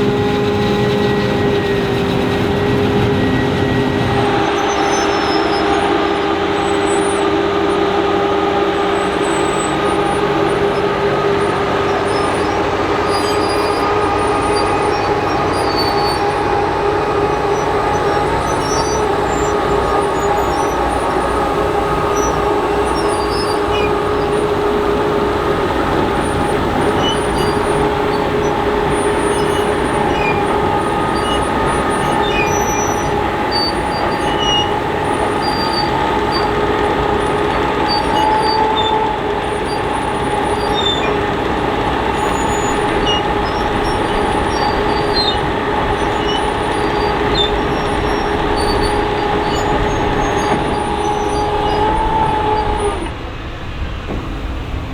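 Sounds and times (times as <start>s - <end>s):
forage harvester droning: 0.0s - 54.9s.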